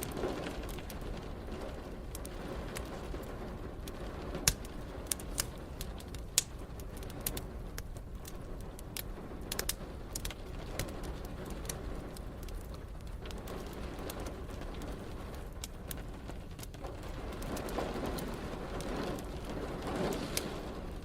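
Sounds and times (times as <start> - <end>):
sharp pops of fire: 0.0 - 21.0
steady hiss of rain: 0.0 - 21.0
wood fire crackling: 0.0 - 21.0.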